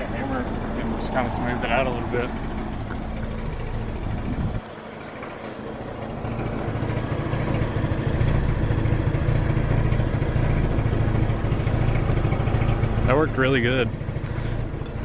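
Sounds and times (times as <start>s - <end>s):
engine humming at idle: 0.0s - 15.0s.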